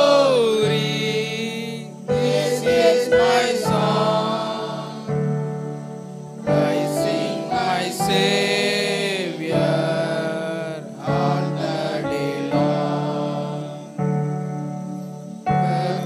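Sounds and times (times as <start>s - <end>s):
group of boys singing: 0.0s - 5.2s, 6.5s - 13.9s, 15.5s - 16.0s.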